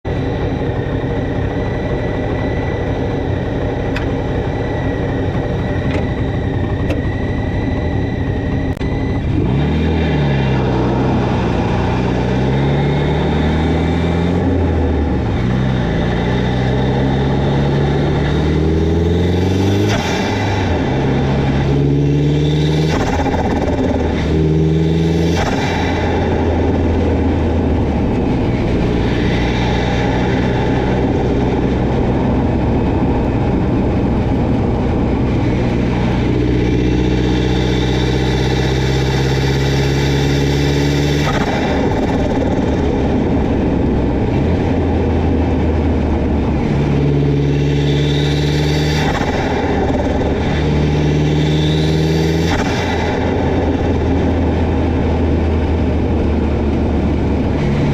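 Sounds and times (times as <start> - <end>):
turbocharged engine pulling hard: 0.0 - 57.9.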